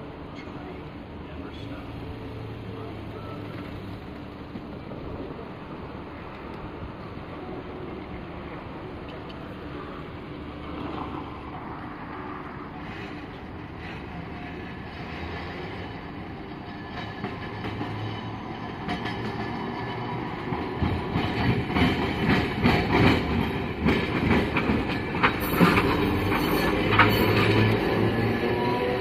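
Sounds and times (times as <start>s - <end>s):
tram wheels clattering over rails: 0.0s - 29.0s.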